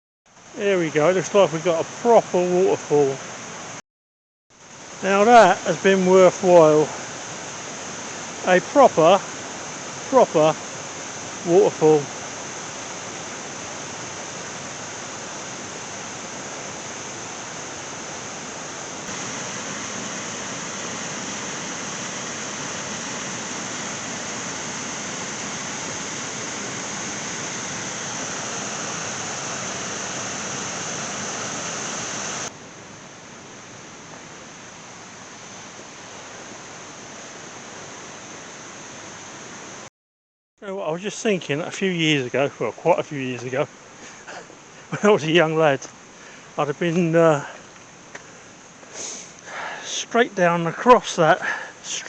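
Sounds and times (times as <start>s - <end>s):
waterfall rushing: 0.4s - 3.8s, 4.7s - 39.9s, 40.7s - 52.0s.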